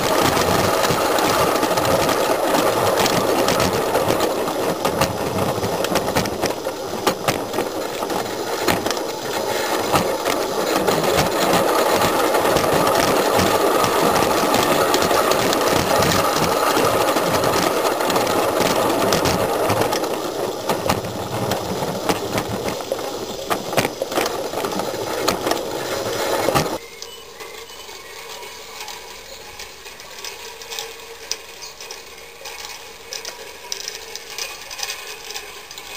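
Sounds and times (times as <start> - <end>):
model locomotive running gear chatter: 0.0 - 35.9.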